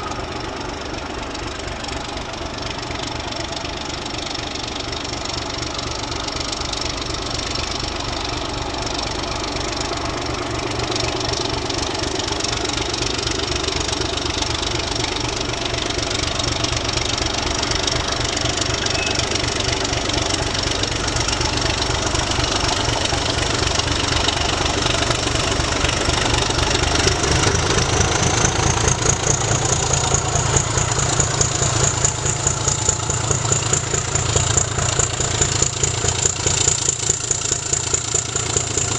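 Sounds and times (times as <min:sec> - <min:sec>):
diesel locomotive engines throbbing: 0:00.0 - 0:38.9.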